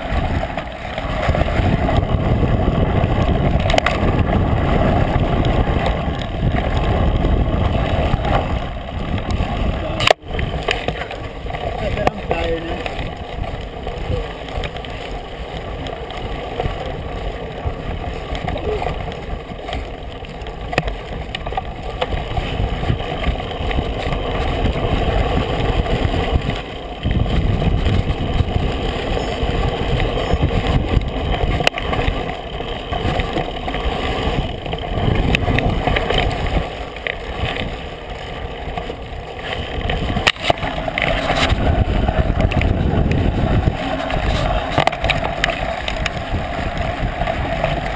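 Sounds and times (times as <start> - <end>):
bike rattling and knocking: 0.0 - 47.9
knobby tyres rolling on dirt: 0.0 - 47.9
wind rumbling on microphone: 0.0 - 47.9.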